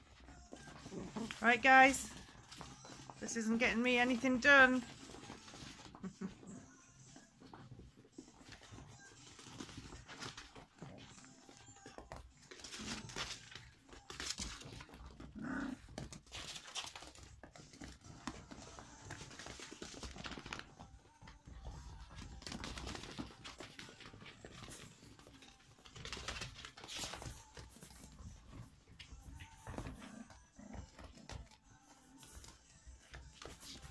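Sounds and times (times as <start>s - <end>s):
puppies panting: 0.0s - 33.9s
puppies scuffling: 0.0s - 33.9s.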